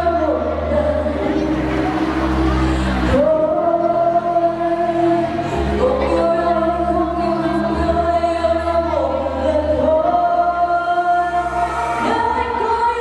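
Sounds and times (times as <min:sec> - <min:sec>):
bass accompaniment: 0:00.0 - 0:13.0.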